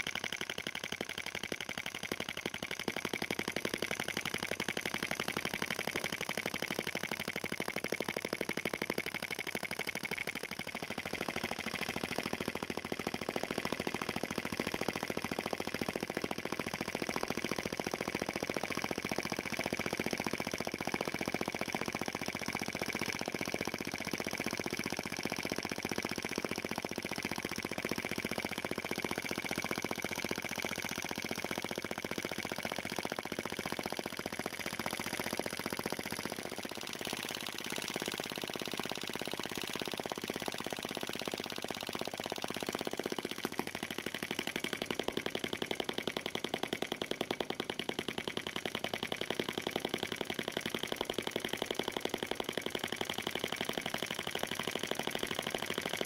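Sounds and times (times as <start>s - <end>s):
model engine ticking fast: 0.0s - 56.0s.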